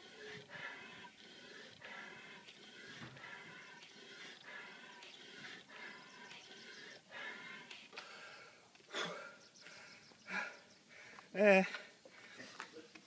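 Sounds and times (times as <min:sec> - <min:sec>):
rapid forced breathing: 0:00.0 - 0:12.8.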